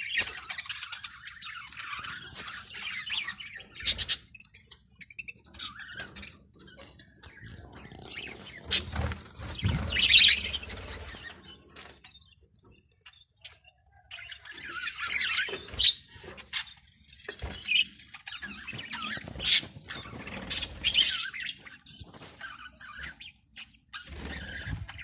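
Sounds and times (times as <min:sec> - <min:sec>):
budgerigars chirping and chattering: 0:00.0 - 0:25.0.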